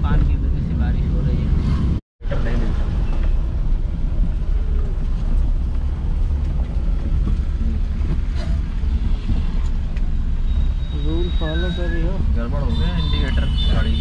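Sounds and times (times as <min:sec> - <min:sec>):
car driving rumble from inside: 0:00.0 - 0:14.0.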